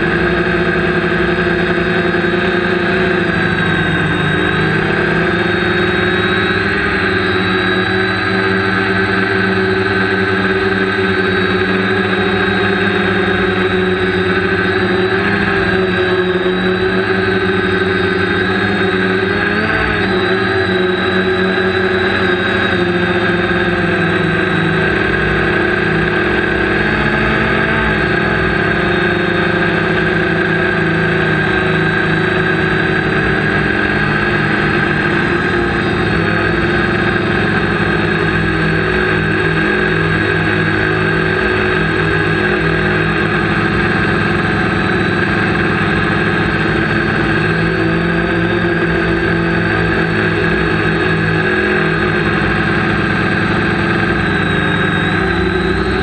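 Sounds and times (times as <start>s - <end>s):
drone propellers buzzing whine: 0.0s - 56.0s.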